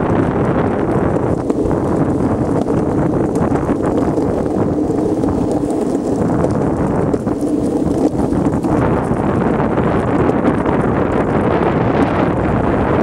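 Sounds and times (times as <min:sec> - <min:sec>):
longboard wheels rolling on asphalt: 0:00.0 - 0:13.0.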